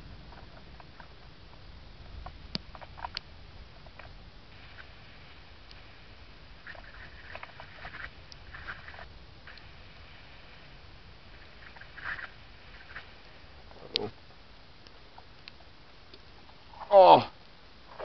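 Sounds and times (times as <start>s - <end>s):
low background rumble: 0.0s - 18.0s
raindrops pattering: 0.0s - 18.0s.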